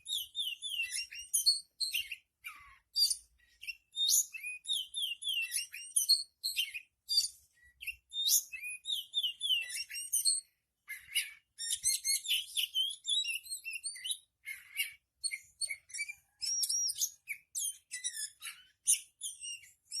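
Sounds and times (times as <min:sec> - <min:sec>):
bird singing whistled notes: 0:00.0 - 0:20.0.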